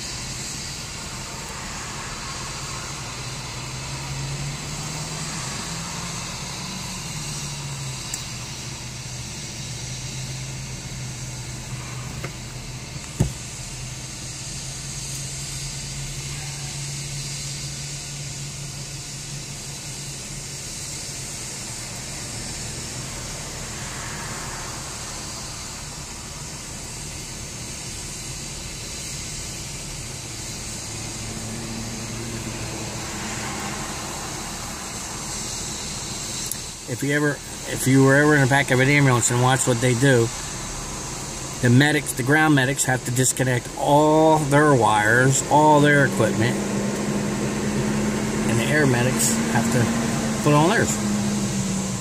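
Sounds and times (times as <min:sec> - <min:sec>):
helicopter idling with rotor turning: 0:00.0 - 0:52.0.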